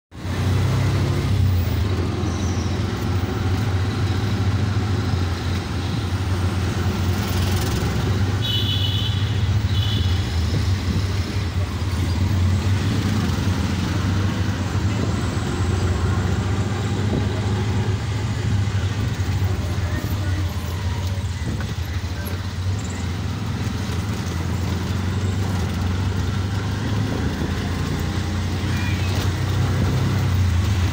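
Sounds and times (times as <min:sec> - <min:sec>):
road traffic noise: 0:00.1 - 0:30.9.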